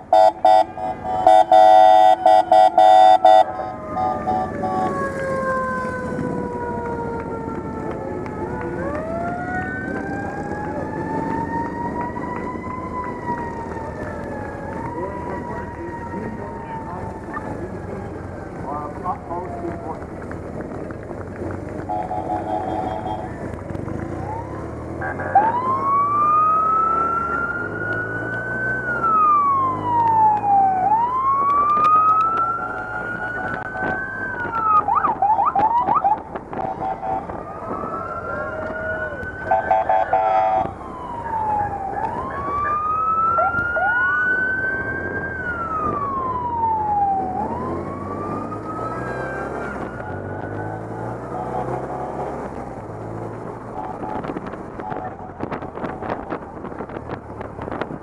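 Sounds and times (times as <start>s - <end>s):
motorcycle siren wailing: 0.0s - 20.2s, 21.8s - 58.0s.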